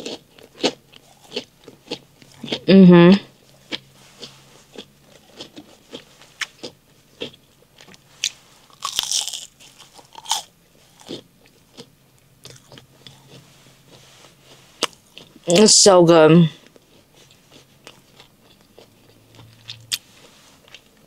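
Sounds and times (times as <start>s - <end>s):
crunchy food being chewed: 0.0s - 2.7s, 3.3s - 15.6s, 16.6s - 21.0s.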